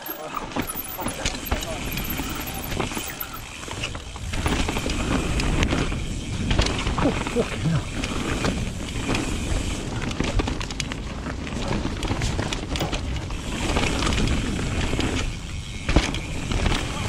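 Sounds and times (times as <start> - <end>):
bike rattles and clicks: 0.0 - 17.0.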